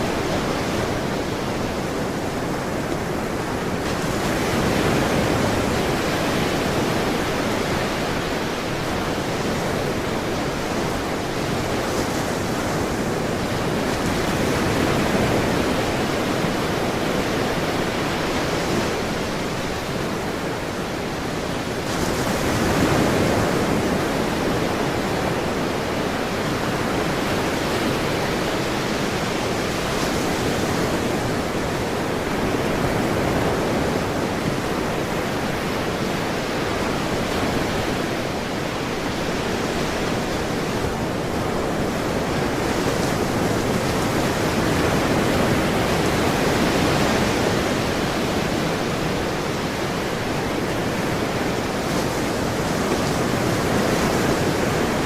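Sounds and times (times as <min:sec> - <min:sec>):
waves washing on shore: 0:00.0 - 0:55.0.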